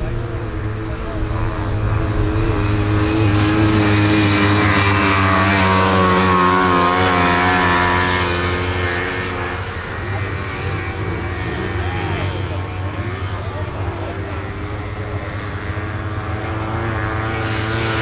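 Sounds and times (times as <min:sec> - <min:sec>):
two-stroke snowmobile engines revving: 0:00.0 - 0:18.0.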